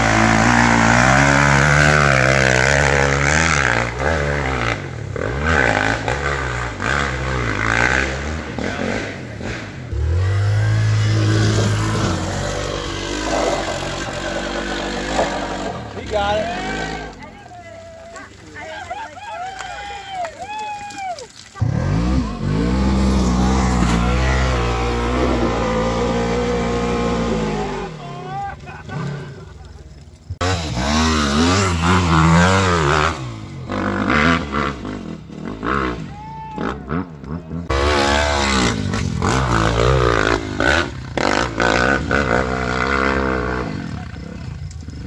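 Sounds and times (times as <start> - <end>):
utility vehicle engine revving: 0.0 - 18.7, 21.4 - 45.0.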